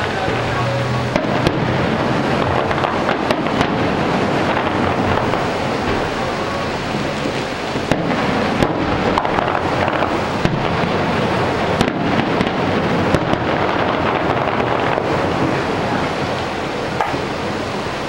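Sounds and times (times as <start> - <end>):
continuous rushing noise: 0.0 - 18.0
fireworks bangs: 0.0 - 18.0.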